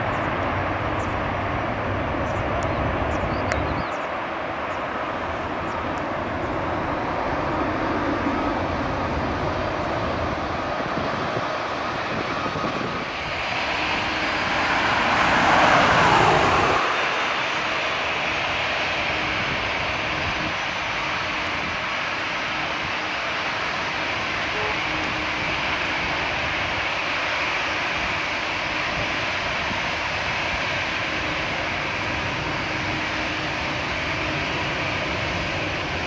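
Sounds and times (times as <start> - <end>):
distant jet engine rumble: 0.0 - 36.0.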